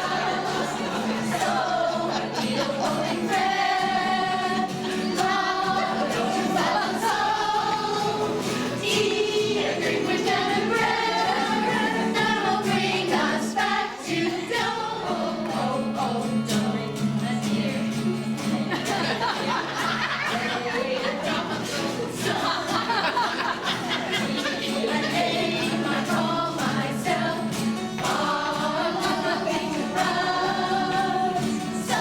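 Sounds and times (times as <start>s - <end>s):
women's choir singing: 0.0s - 32.0s.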